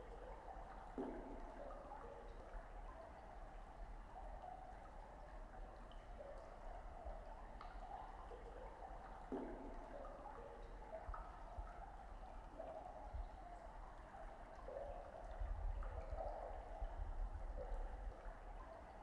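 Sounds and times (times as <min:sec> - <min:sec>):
water dripping: 0:00.0 - 0:19.0
water trickling and gurgling: 0:00.0 - 0:19.0.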